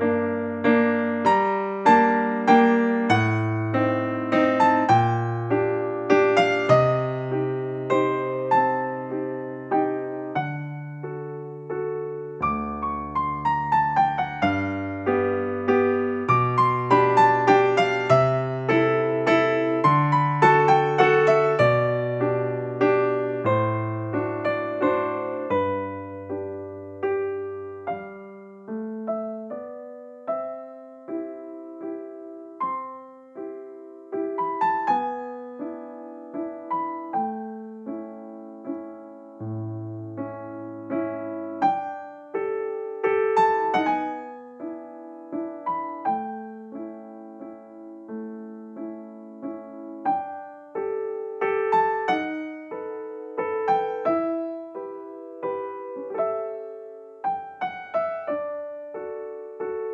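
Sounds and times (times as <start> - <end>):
soft piano music: 0.0 - 59.9.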